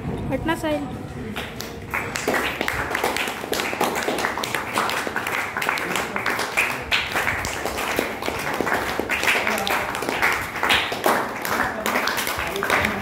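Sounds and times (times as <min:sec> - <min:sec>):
children applauding: 0:01.4 - 0:13.0.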